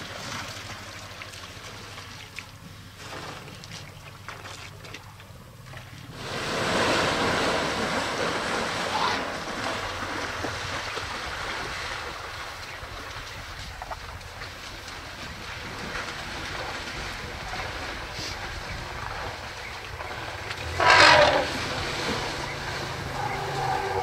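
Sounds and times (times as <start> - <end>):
elephants splashing through water: 0.0 - 24.0.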